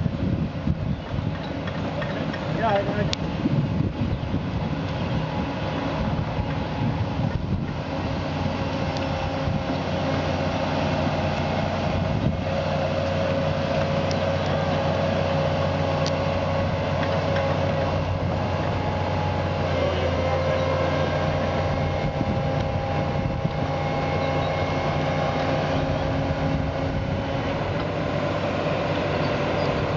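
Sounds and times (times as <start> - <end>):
excavator diesel engine running: 0.0 - 29.9
steady whine: 0.0 - 29.9.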